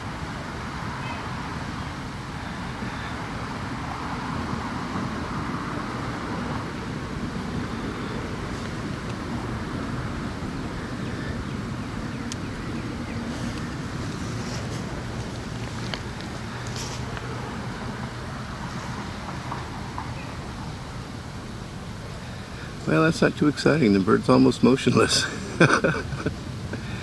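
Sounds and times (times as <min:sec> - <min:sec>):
distant city traffic rumble: 0:00.0 - 0:27.0.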